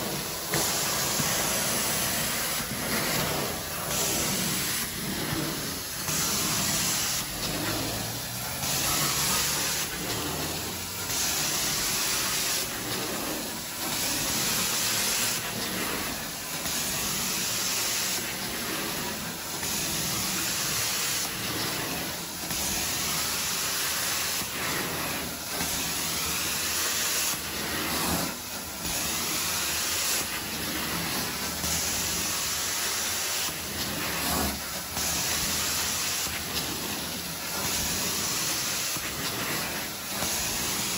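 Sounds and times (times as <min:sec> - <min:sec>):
carpet extraction wand hissing: 0:00.0 - 0:40.9.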